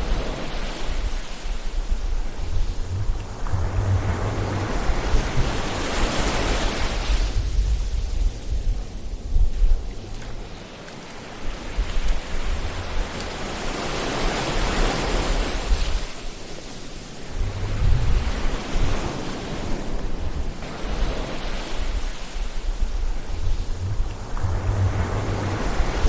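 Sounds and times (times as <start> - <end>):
ocean waves washing on shore: 0.0 - 26.0.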